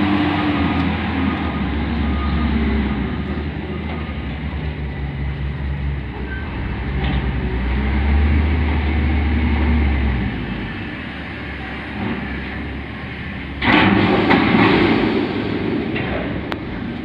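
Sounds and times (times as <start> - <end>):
diesel engine under hydraulic load: 0.0 - 17.0.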